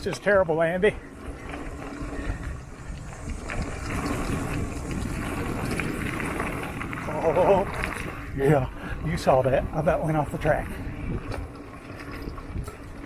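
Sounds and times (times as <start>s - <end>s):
bike clicks and rattles: 0.0s - 13.0s
bike tyres rumbling on dirt: 0.0s - 13.0s.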